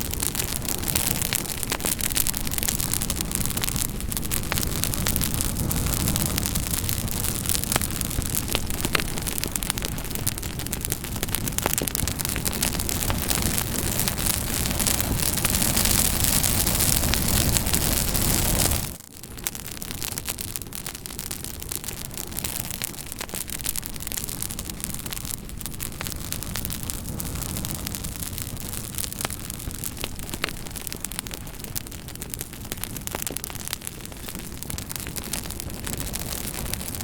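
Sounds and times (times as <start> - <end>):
burning wood crackles and pops: 0.0 - 37.0
campfire hissing: 0.0 - 37.0.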